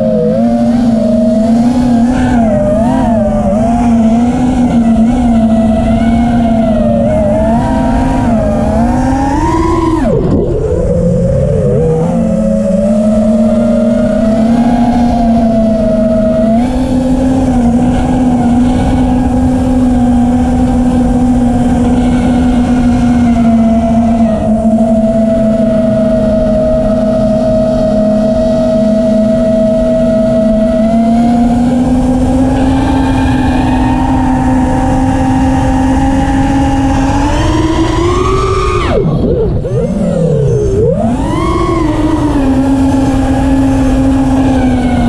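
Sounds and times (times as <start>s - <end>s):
quadcopter motors whining: 0.0s - 45.0s.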